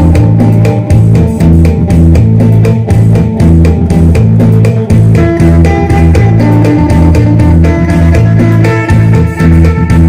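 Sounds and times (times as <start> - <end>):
electric guitar melody: 0.0 - 10.0
steady low beat: 0.0 - 10.0.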